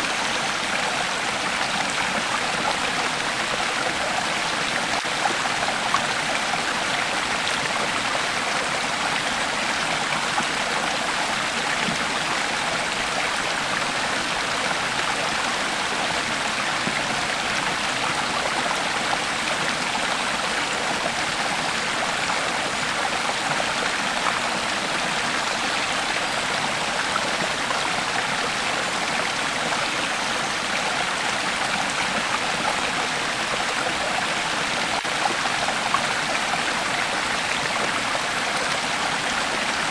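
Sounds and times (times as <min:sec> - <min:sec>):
creek flowing over rocks: 0:00.0 - 0:39.9.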